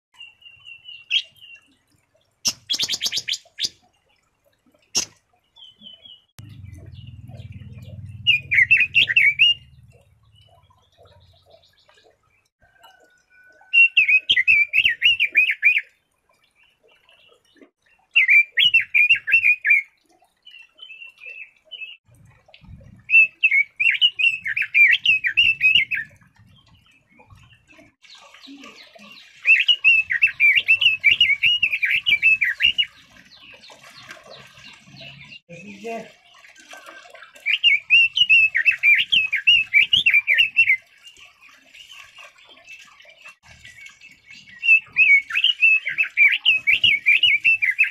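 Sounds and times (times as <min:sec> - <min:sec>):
bird singing warbled phrases: 0:00.2 - 0:03.9, 0:04.9 - 0:12.5, 0:13.6 - 0:22.0, 0:22.6 - 0:36.5, 0:37.3 - 0:47.9.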